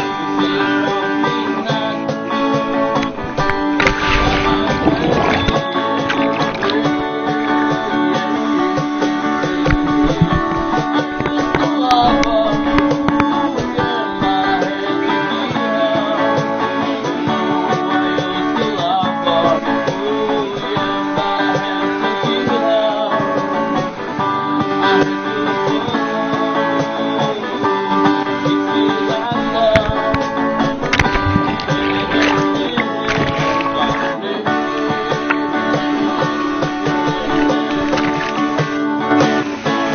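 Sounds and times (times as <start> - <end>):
plucked acoustic guitar music: 0.0 - 39.9.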